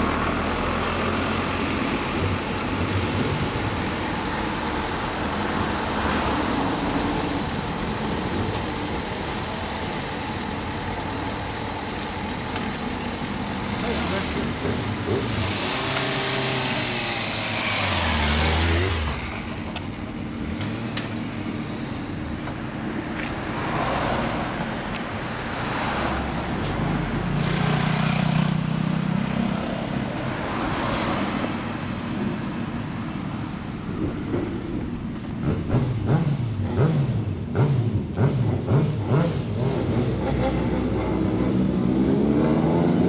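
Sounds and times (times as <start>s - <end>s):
motorcycles revving: 0.0s - 32.2s, 33.4s - 43.0s
passing road traffic: 0.0s - 43.0s.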